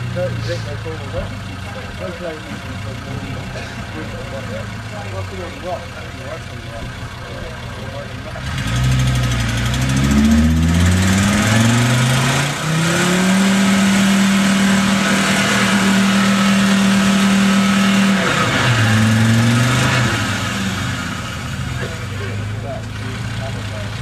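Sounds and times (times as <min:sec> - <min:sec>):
off-road engine revving: 0:00.0 - 0:24.0.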